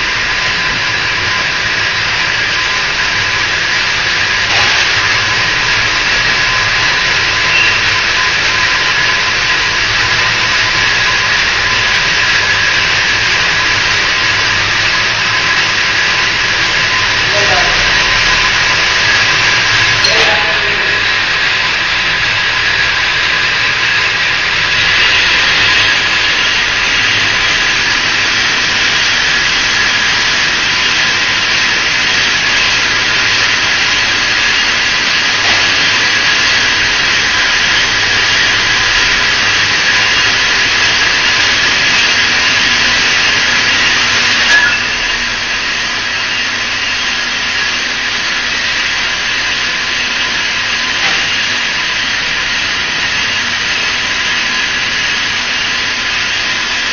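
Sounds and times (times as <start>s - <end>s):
machine whining and hissing: 0.0s - 56.9s.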